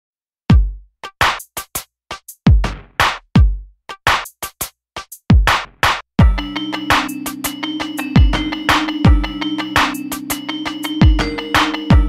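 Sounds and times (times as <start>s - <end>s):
electronic drum-machine beat: 0.5s - 12.0s.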